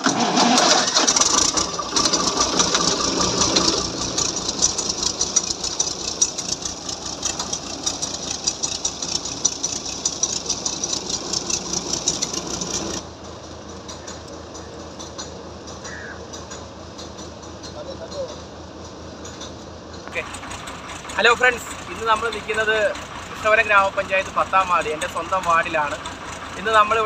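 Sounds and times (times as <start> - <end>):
engine drone: 0.0 - 27.0
fast mechanical clatter: 0.0 - 27.0.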